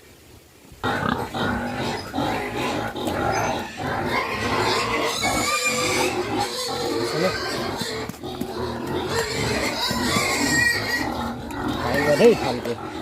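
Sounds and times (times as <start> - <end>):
pigs squealing and grunting: 0.8 - 13.0.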